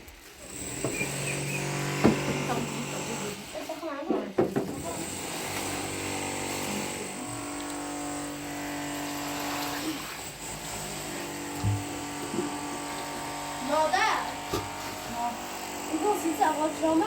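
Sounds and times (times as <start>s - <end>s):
motor droning: 0.5s - 3.5s, 4.8s - 17.0s.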